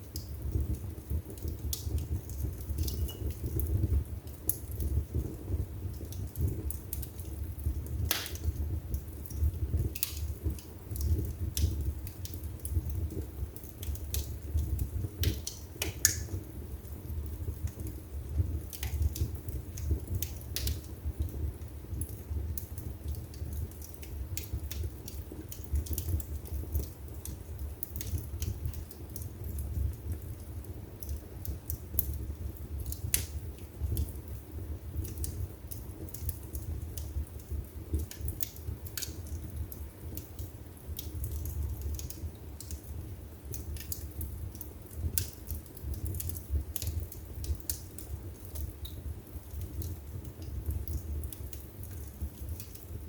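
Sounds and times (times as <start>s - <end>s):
low rumble of flame: 0.0s - 53.0s
wood fire crackling: 0.0s - 53.0s.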